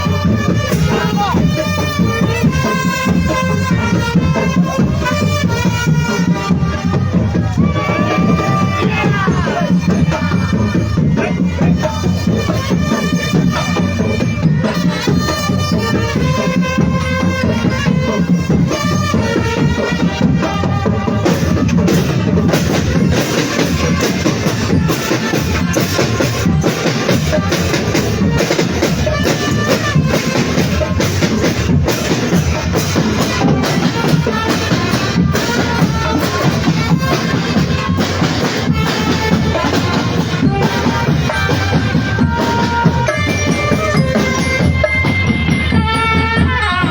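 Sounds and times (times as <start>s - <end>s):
marching drums and bass drums: 0.0s - 46.9s
pitched melody: 0.0s - 46.9s.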